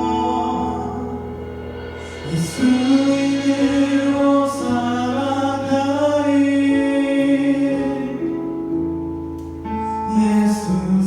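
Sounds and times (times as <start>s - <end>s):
musical accompaniment: 0.0s - 11.0s.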